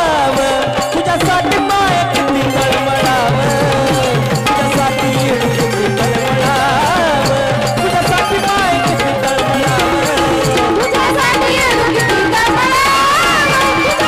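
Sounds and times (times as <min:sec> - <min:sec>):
steady drum rhythm: 0:00.0 - 0:14.0.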